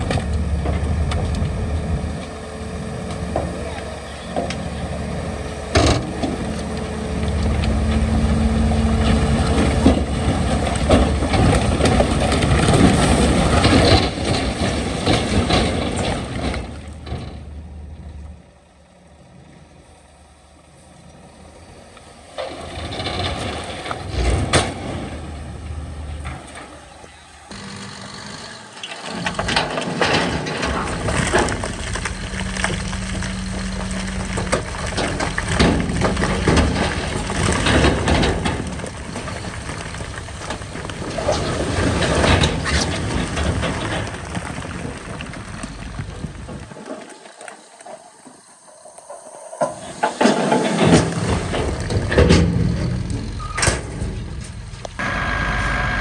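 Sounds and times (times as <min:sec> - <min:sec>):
machinery clanks and rattles: 0:00.0 - 0:47.6, 0:48.2 - 0:56.0
diesel engines running: 0:00.0 - 0:56.0.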